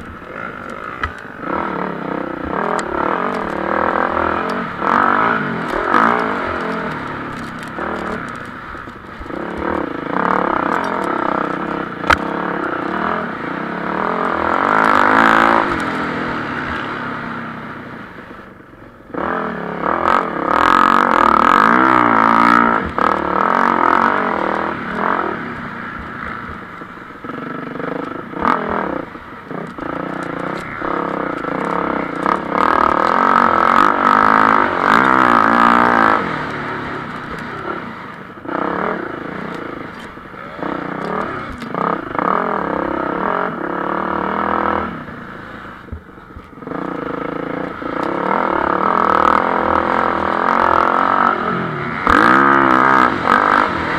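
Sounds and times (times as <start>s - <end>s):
motocross bikes revving past: 0.0s - 17.7s, 19.1s - 45.9s, 46.5s - 53.9s.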